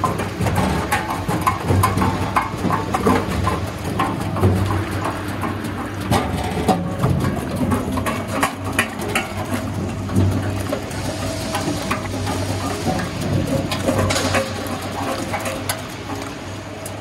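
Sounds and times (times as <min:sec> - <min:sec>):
potatoes knocking and clattering: 0:00.0 - 0:16.4.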